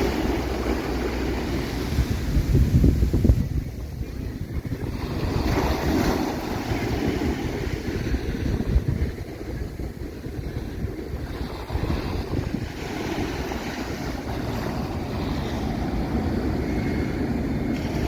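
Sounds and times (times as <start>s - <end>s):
surf washing on beach: 0.0s - 18.0s
wind buffeting microphone: 0.0s - 18.0s.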